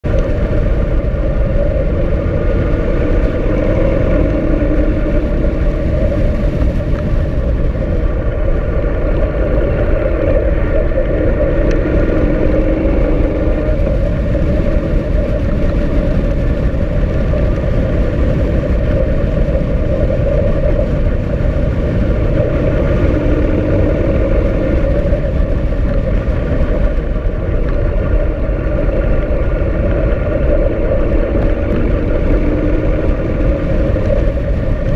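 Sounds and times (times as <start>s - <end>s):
motorcycle engine: 0.0s - 34.9s
road noise: 0.0s - 34.9s
wind rushing on helmet: 0.0s - 34.9s.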